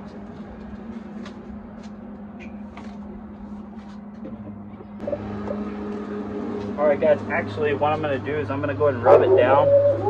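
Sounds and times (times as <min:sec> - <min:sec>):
low motor drone: 0:00.0 - 0:10.0.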